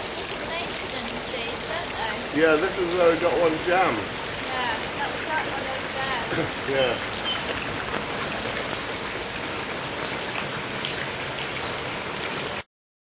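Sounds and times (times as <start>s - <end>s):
water rushing through lock paddles: 0.0s - 12.6s.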